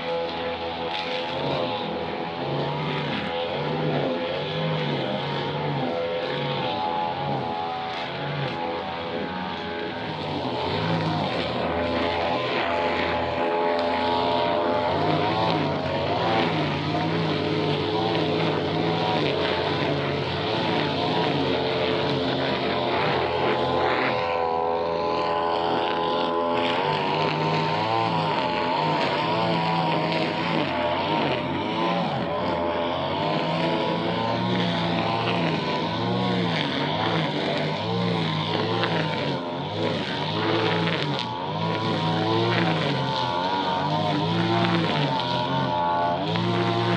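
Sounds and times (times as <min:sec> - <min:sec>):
brush cutter engine running: 0:00.0 - 0:46.9.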